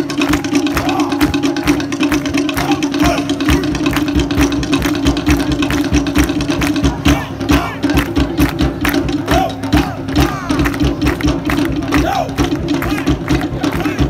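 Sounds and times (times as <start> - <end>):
fast wooden drumming: 0.0 - 14.0.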